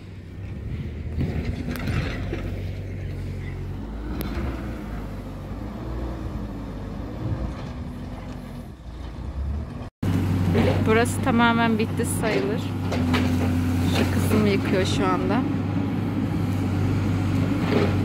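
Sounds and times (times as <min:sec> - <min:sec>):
heavy machine engine running: 0:00.0 - 0:18.0.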